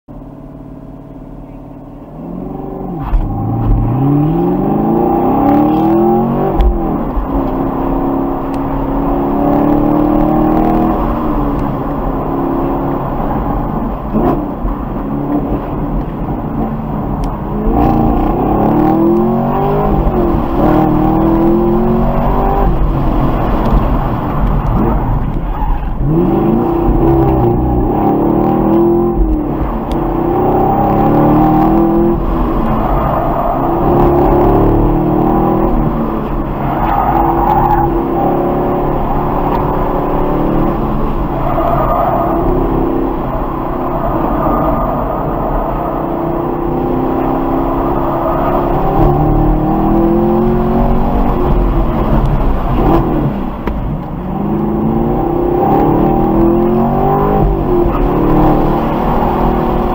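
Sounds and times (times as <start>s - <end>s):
car engine revving: 0.2s - 59.9s.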